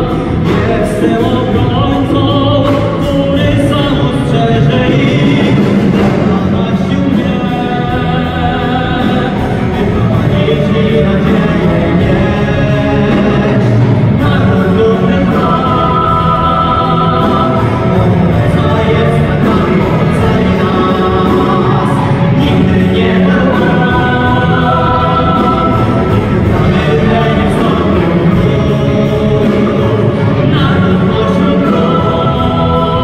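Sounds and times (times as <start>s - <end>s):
choir singing: 0.0s - 33.0s
orchestra strings: 0.0s - 33.0s.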